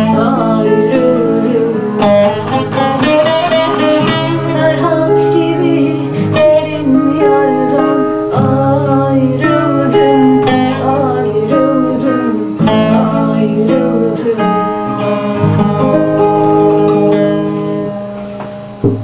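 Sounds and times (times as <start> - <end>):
woman singing: 0.0 - 16.2
acoustic guitar strumming: 0.0 - 19.0
lute playing: 0.0 - 19.0.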